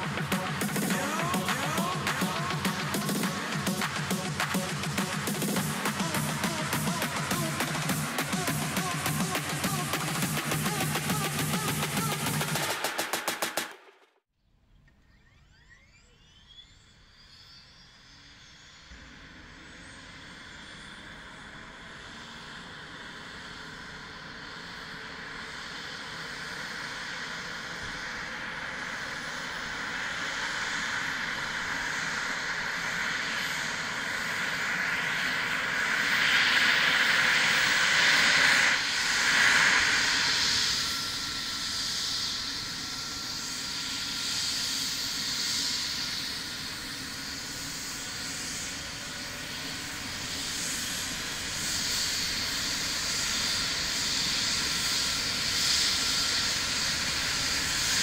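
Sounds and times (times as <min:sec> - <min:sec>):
helicopter rotor noise: 0:00.0 - 0:14.0, 0:18.2 - 0:58.0
helicopter turbine whine: 0:00.0 - 0:14.2, 0:15.1 - 0:58.0.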